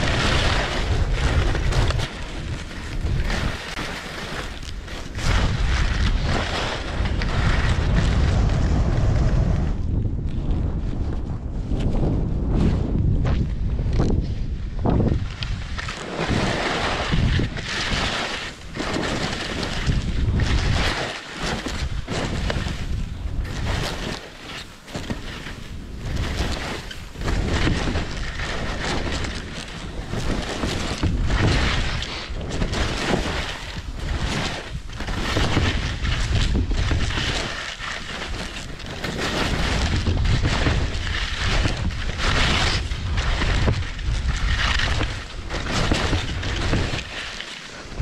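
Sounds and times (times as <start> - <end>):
skis scraping on icy snow: 0.0 - 10.0, 10.6 - 48.0
wind on microphone: 0.0 - 48.0.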